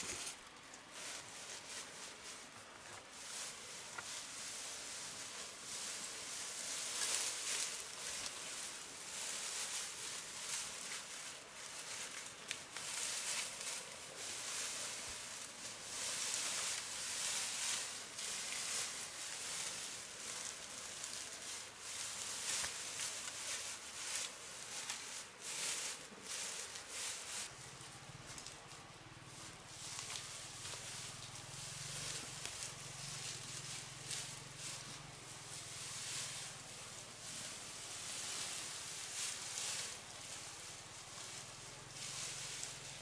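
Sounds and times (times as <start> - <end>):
crackles: 0.0 - 43.0
dry vegetation rustling: 0.0 - 43.0.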